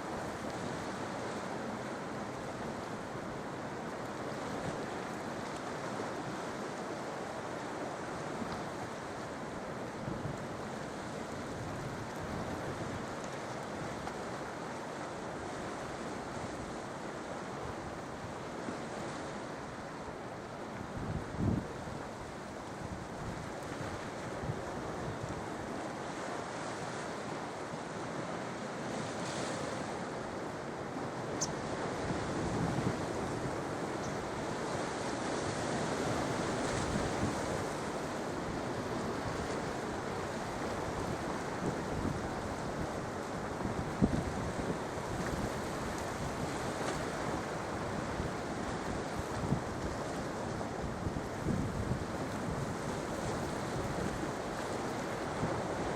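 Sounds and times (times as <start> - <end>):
sea surf washing onto shore: 0.0 - 55.9.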